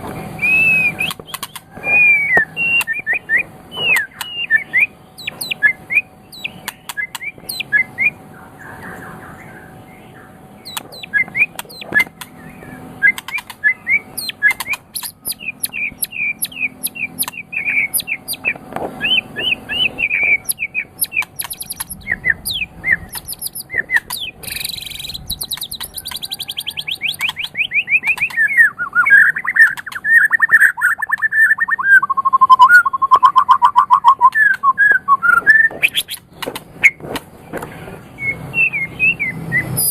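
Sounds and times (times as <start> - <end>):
bird singing whistled notes: 0.3 - 8.2, 8.8 - 37.0, 38.1 - 39.9.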